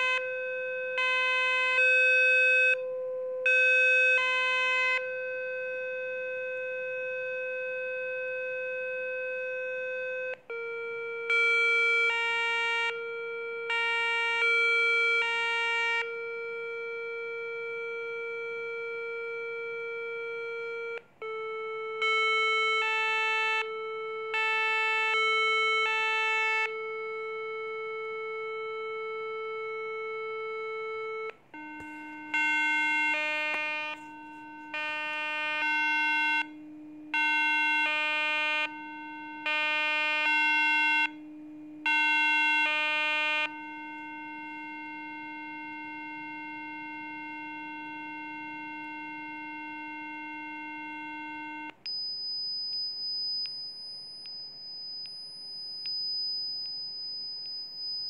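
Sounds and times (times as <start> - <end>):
steady electronic tone: 4.8 - 22.5, 26.7 - 58.0.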